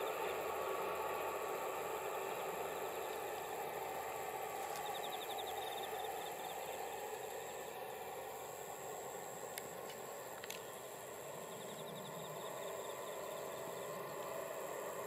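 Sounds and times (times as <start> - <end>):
distant diesel train running: 0.0 - 15.0
insect high whine: 0.0 - 15.0
insect rapid ticking: 0.0 - 15.0.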